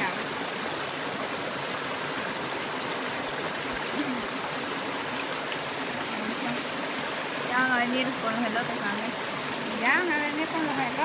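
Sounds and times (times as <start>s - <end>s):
creek water over rocks: 0.0s - 11.0s.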